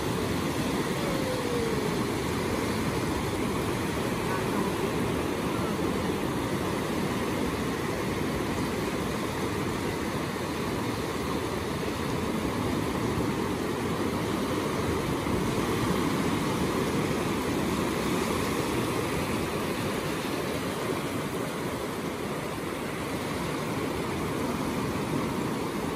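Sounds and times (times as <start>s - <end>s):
waves breaking over shallows: 0.0s - 25.9s.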